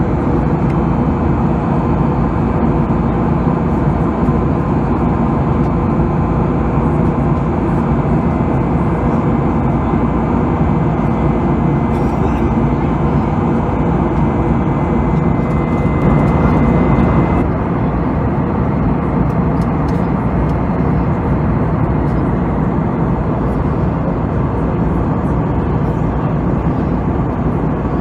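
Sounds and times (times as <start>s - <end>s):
airplane cabin engine noise: 0.0s - 28.0s.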